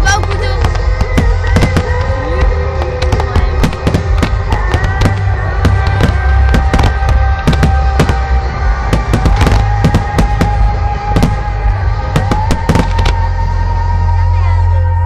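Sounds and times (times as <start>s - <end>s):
fireworks bursting: 0.0s - 13.4s
music with long held notes: 0.0s - 15.0s.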